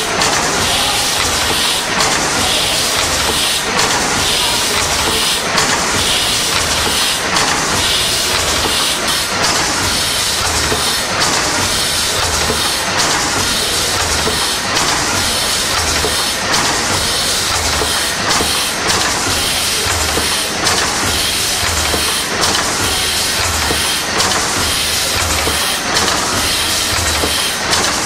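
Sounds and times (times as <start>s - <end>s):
engine mechanical clatter: 0.0s - 28.0s
steam hissing: 0.0s - 28.0s.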